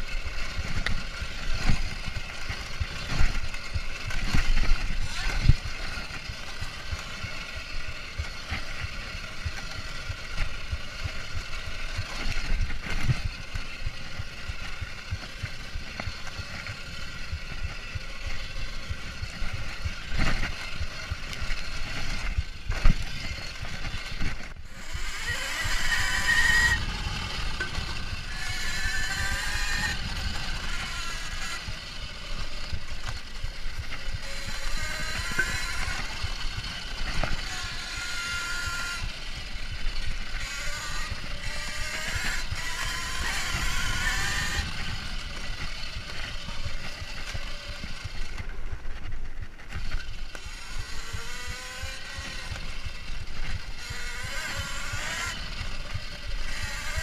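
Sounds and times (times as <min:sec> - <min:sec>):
bike knocking and rattling: 0:00.0 - 0:57.0
electric motor whine: 0:00.0 - 0:57.0
wind and rough ground rumble: 0:00.0 - 0:57.0.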